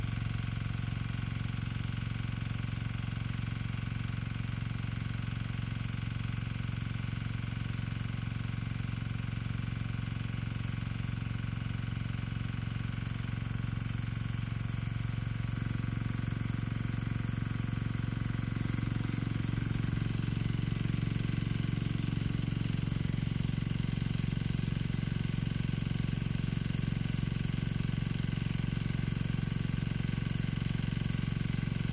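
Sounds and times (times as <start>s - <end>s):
irrigation pump engine running: 0.0s - 31.9s.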